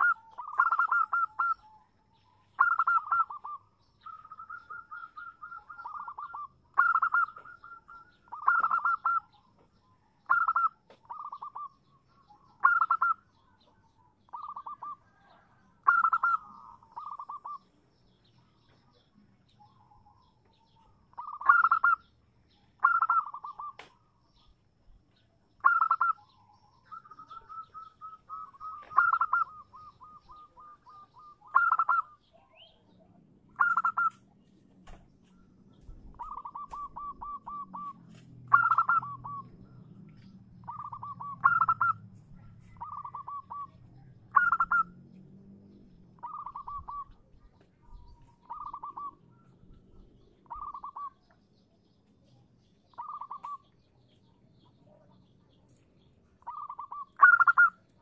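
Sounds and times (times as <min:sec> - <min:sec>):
dove cooing: 0:00.0 - 0:18.2, 0:19.6 - 0:22.1, 0:22.8 - 0:23.9, 0:25.6 - 0:34.2, 0:35.8 - 0:45.0, 0:46.1 - 0:51.2, 0:52.9 - 0:53.7, 0:56.4 - 0:57.8.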